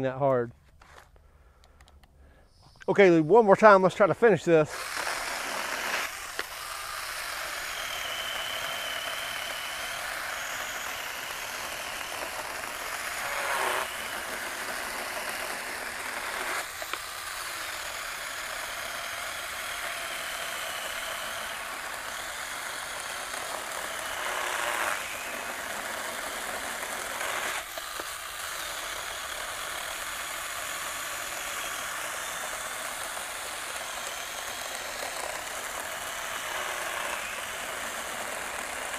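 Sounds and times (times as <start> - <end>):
small chainsaw cutting log: 4.3 - 38.9.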